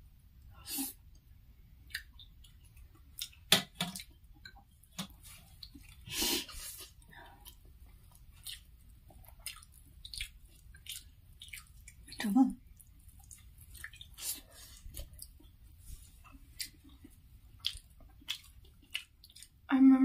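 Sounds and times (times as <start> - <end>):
fingers squishing food: 1.1 - 6.1, 6.9 - 19.6
chewing: 1.8 - 19.6.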